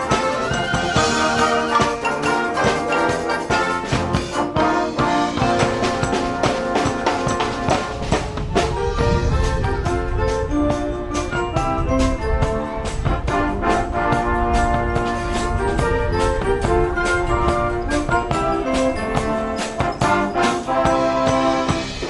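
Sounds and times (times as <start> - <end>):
brass holding chords: 0.0 - 22.0
steady drum beat: 0.0 - 22.0.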